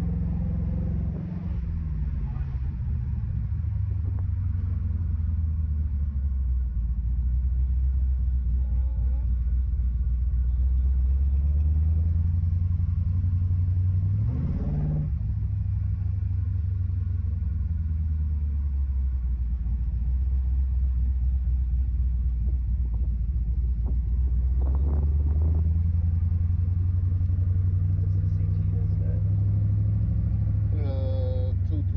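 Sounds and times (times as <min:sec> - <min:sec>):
car engine rumbling: 0:00.0 - 0:31.9.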